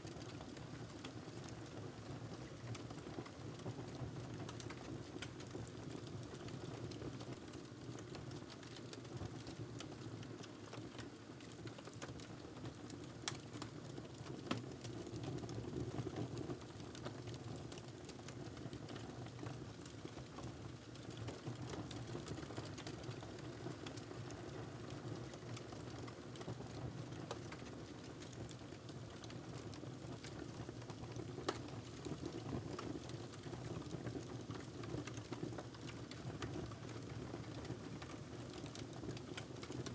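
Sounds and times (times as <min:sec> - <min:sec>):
wood fire crackling: 0:02.4 - 0:39.9.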